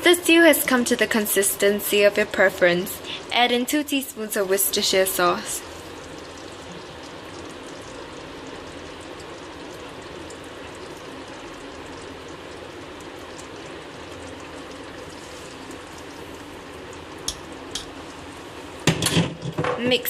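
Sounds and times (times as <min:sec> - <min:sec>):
stew boiling in a pan: 0:00.0 - 0:20.0.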